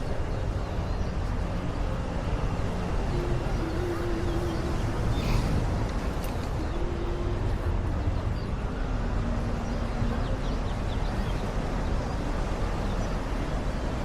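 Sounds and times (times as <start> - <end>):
rushing outdoor ambience: 0.0 - 14.0.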